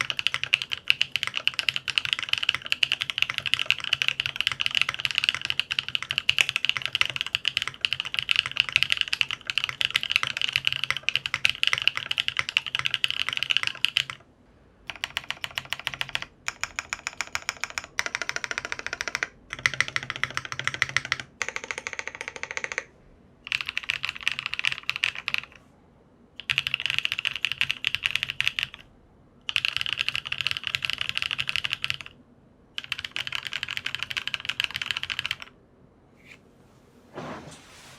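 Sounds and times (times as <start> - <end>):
mechanical keyboard typing: 0.0 - 14.2, 14.9 - 22.9, 23.5 - 25.6, 26.4 - 28.8, 29.4 - 32.2, 32.8 - 35.6
rapid repeated key presses: 0.0 - 14.2, 14.8 - 25.6, 26.4 - 28.8, 29.4 - 32.2, 32.8 - 35.6.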